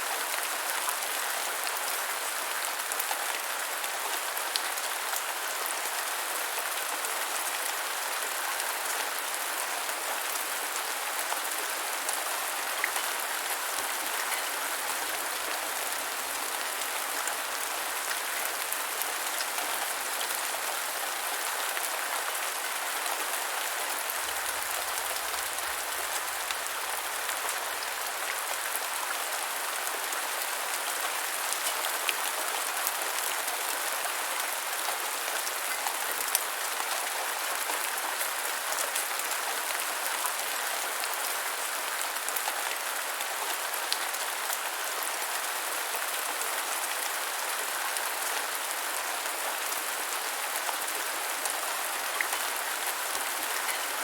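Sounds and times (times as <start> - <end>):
rain falling on ground: 0.0 - 54.0.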